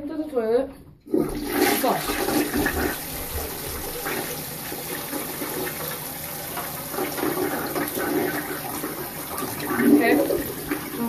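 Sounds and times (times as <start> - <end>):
toilet flushing: 1.0 - 11.0.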